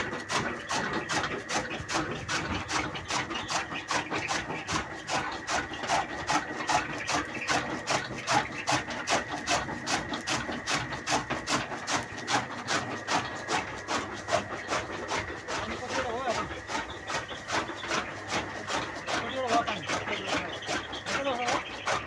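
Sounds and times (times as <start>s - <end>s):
chaff cutter chopping fodder: 0.0s - 22.0s.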